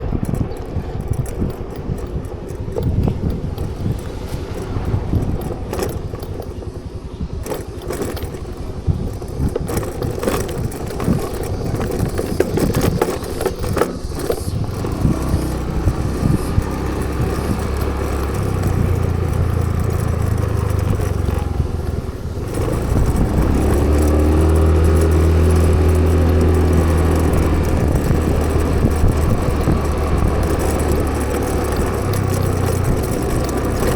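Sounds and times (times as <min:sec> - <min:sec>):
clicks and rustling of handling: 0:00.0 - 0:06.8, 0:07.4 - 0:33.9
keys jangling: 0:00.0 - 0:06.8, 0:07.4 - 0:33.9
motorcycle engine running: 0:00.0 - 0:33.9.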